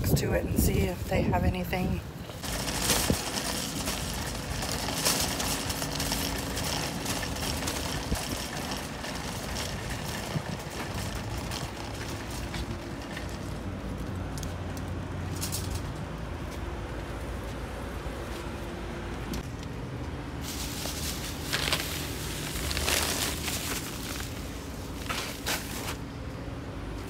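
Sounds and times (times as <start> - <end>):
cart wheels rolling on asphalt: 0.0 - 27.0.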